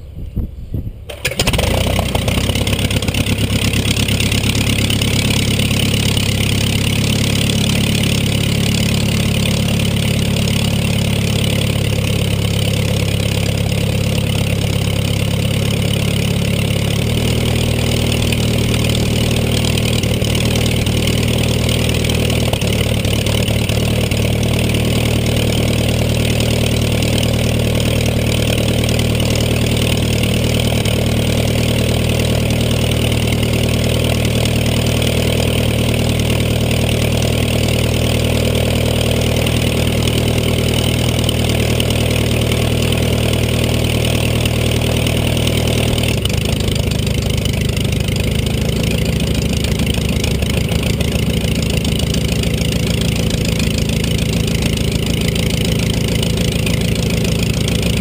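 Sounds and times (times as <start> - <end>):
aircraft engine coughing and running: 1.0 - 58.0.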